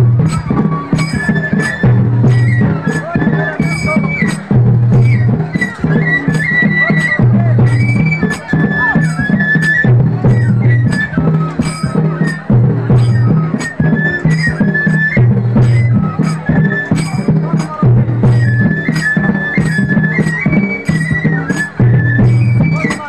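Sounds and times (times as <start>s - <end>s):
drum beat: 0.0s - 23.0s
flute melody: 0.0s - 23.0s.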